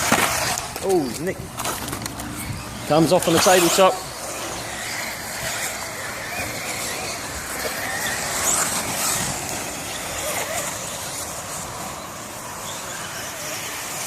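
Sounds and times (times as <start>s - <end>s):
rc car motors whining: 0.0s - 14.0s.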